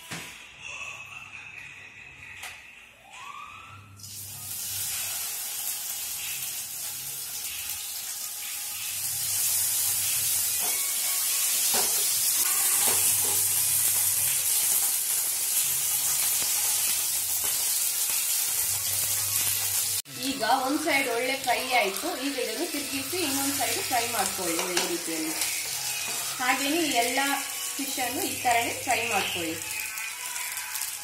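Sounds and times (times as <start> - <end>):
fish sizzling in hot oil: 4.0 - 31.0.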